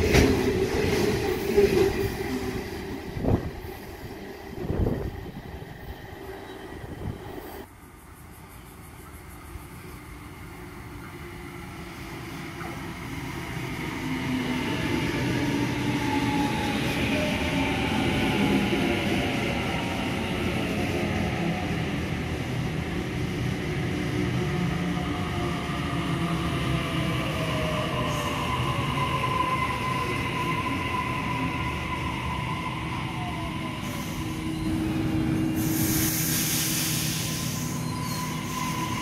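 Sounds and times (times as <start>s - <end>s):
electric train whine: 0.0s - 39.0s
train wheels on rail: 0.0s - 39.0s.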